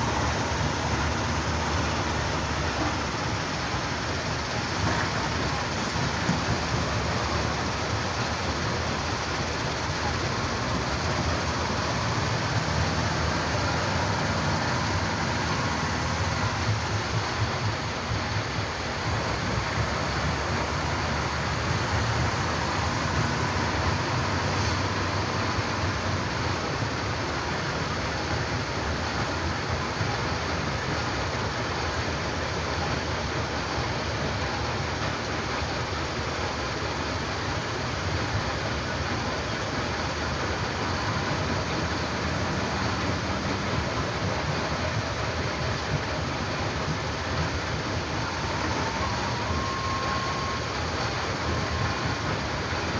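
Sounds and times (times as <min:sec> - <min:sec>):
diesel construction machinery running: 0:00.0 - 0:52.9.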